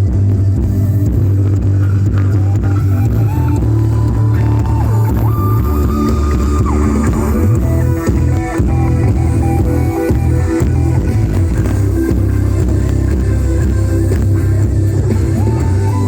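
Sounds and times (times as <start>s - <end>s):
loud bass-heavy music from loudspeakers: 0.0s - 16.0s.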